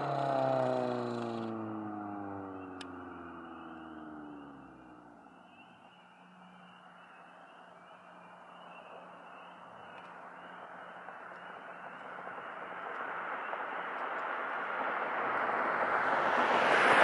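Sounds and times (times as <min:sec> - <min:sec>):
car approaching: 0:00.0 - 0:17.0.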